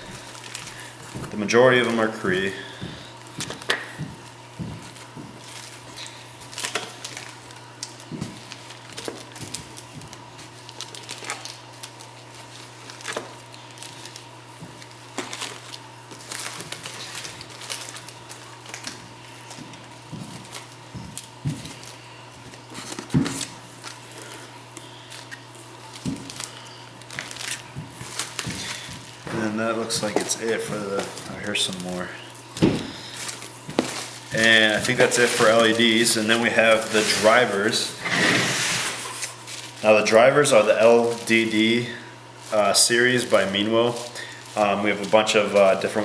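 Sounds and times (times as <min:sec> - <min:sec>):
plastic bags crinkling: 0:00.0 - 0:46.0.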